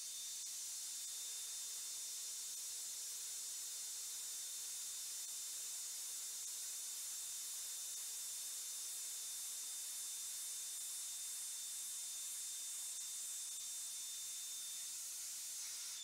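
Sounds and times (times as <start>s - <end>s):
milling machine hiss and whine: 0.0s - 16.0s.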